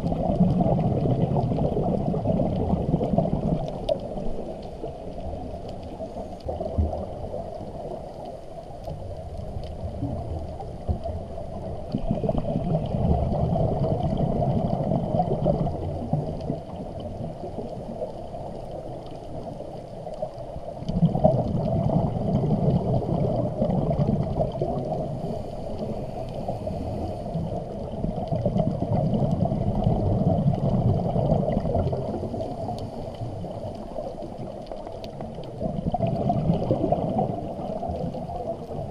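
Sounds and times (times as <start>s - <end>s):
underwater bubbles gurgling: 0.0s - 38.9s.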